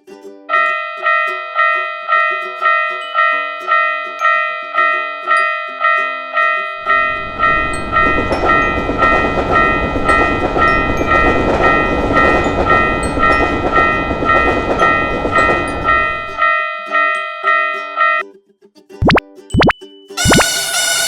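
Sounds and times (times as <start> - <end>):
diesel train rumbling past: 0.5 - 18.2
railroad crossing bell ringing: 0.5 - 18.2, 19.9 - 21.0.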